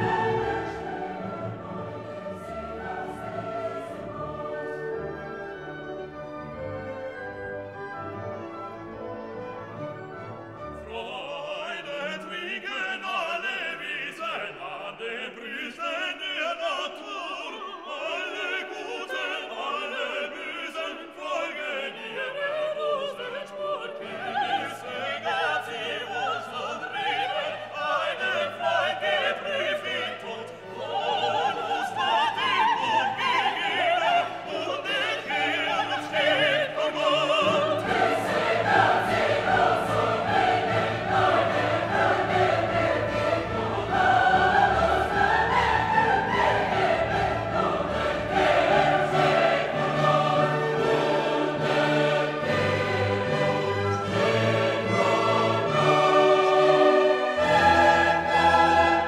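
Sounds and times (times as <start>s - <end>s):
classical music with operatic singing: 0.0s - 59.0s.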